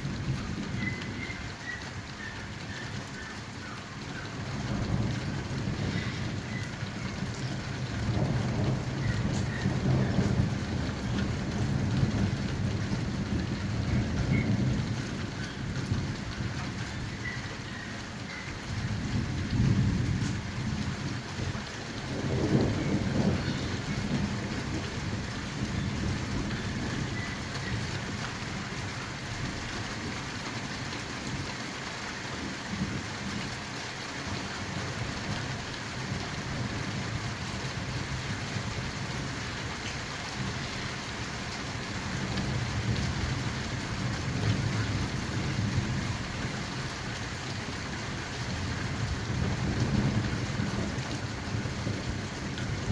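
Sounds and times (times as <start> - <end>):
rain pouring: 0.0 - 52.9
thunder rumbling: 4.3 - 30.7, 34.7 - 52.9.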